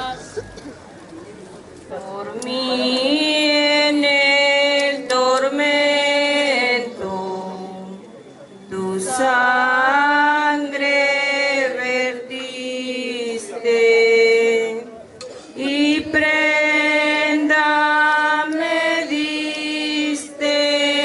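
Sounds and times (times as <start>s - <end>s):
slow religious chant: 1.9s - 21.0s.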